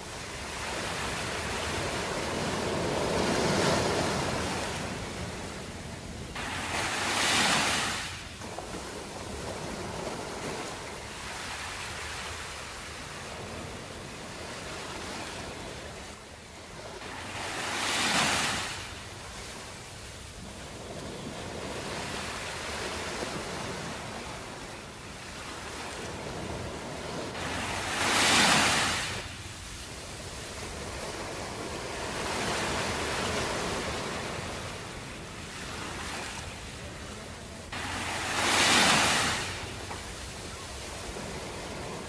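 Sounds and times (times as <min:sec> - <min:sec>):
big waves breaking: 0:00.0 - 0:42.0
waves washing: 0:00.0 - 0:42.0.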